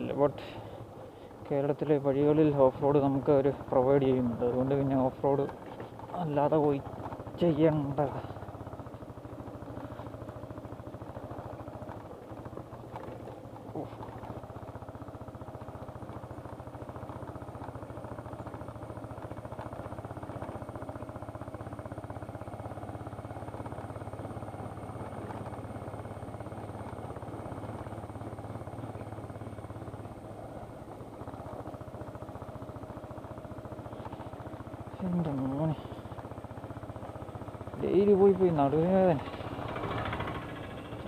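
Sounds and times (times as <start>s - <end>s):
small petrol engine running: 0.0s - 41.0s.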